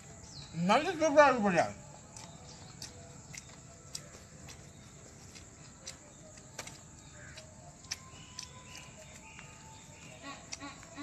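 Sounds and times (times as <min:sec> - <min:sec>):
faint chirping: 0:00.0 - 0:11.0
man chewing food: 0:01.8 - 0:11.0.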